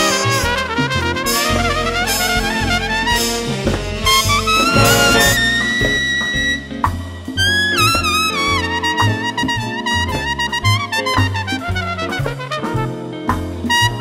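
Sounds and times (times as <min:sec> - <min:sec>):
big band jazz: 0:00.0 - 0:14.0.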